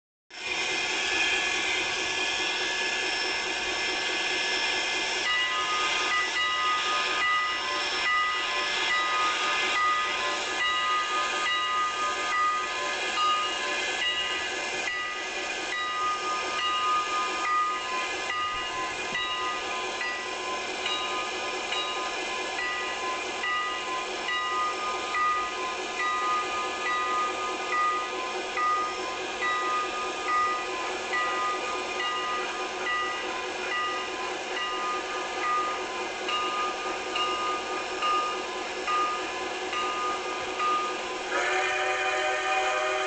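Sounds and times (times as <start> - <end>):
locomotive hissing steam: 0.3 - 43.0
locomotive bell ringing: 3.0 - 43.0.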